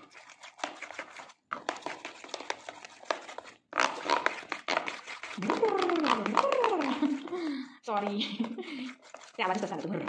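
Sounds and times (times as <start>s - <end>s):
batter beaten in steel bowl: 0.0s - 10.0s.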